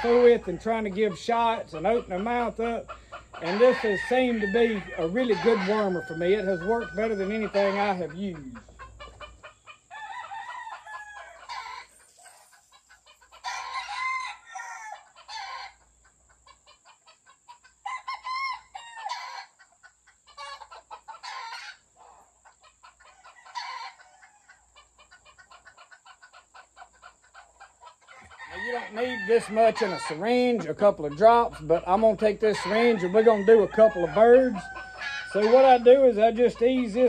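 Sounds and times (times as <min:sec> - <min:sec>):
roosters crowing: 0:00.0 - 0:15.8, 0:17.8 - 0:19.6, 0:20.3 - 0:22.3, 0:22.9 - 0:25.1, 0:27.8 - 0:37.0.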